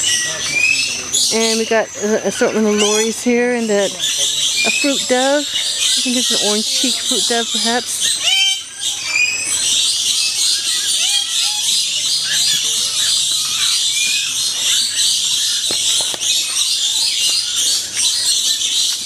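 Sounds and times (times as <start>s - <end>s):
parrots chattering and screeching: 0.0s - 19.0s.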